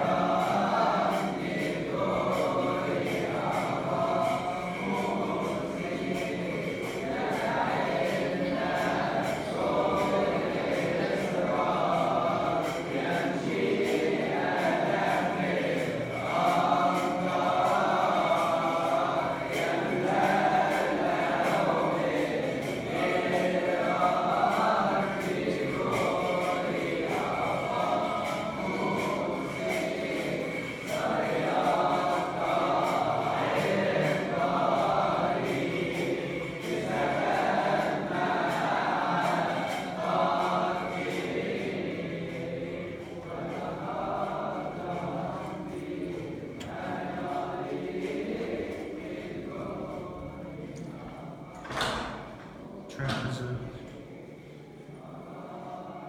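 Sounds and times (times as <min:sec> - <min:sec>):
choir chanting a hymn: 0:00.0 - 0:56.0.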